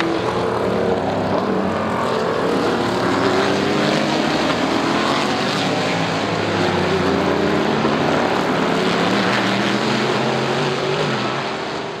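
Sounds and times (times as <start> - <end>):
race car engines: 0.0 - 12.0.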